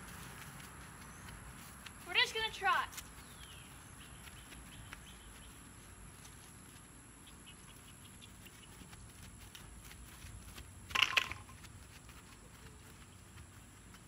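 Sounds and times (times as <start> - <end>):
horse hoofbeats on grass: 0.0 - 14.0.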